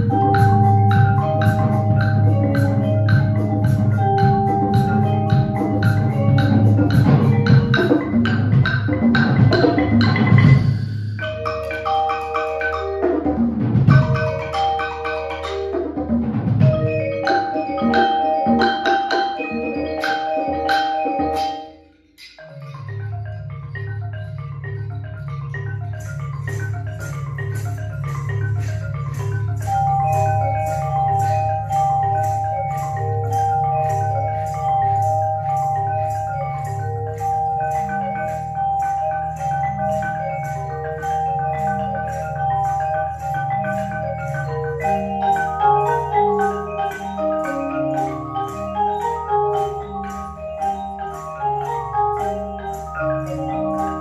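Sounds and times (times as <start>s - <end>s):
marimba ensemble playing: 0.0s - 54.0s.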